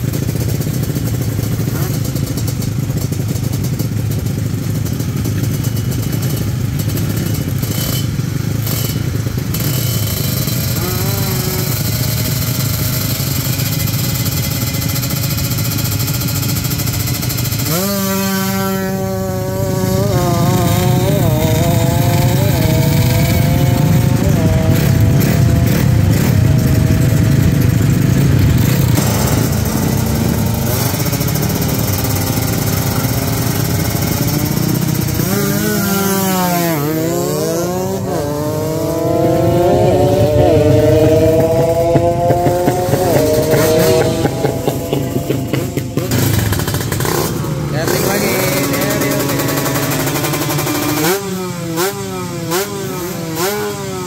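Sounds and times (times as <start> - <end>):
two-stroke engine revving: 0.0 - 54.0.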